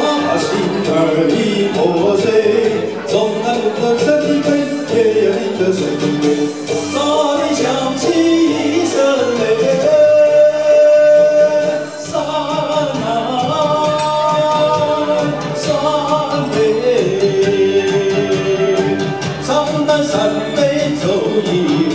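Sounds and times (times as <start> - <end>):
backing music: 0.0 - 21.9
man singing into a microphone: 0.0 - 21.9.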